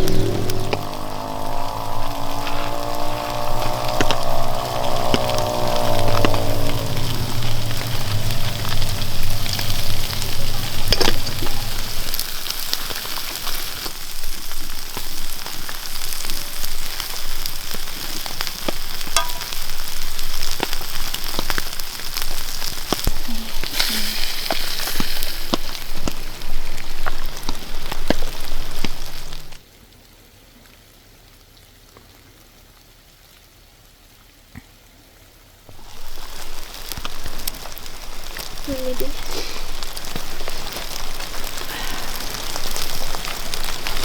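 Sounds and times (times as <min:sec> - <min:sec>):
fire crackling: 0:00.0 - 0:29.6, 0:35.7 - 0:44.0
food sizzling over fire: 0:00.0 - 0:29.6, 0:35.7 - 0:44.0
low hum: 0:00.0 - 0:29.6, 0:35.7 - 0:44.0.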